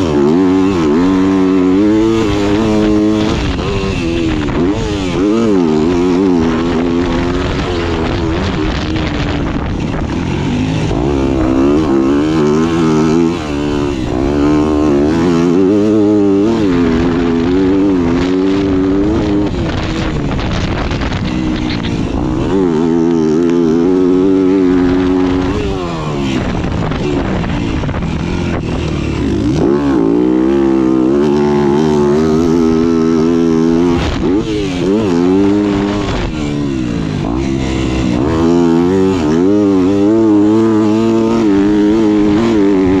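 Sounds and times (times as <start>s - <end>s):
motorbike engine revving: 0.0s - 43.0s.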